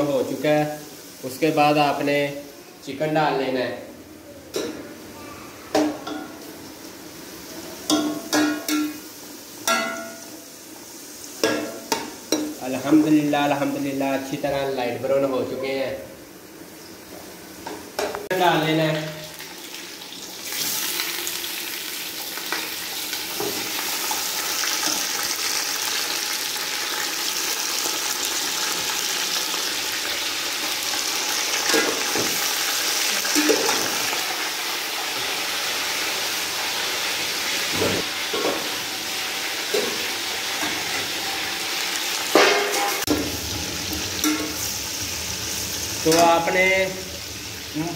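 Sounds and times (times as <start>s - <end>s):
chicken sizzling in hot oil: 0.0s - 2.6s, 6.3s - 14.6s, 18.3s - 47.9s.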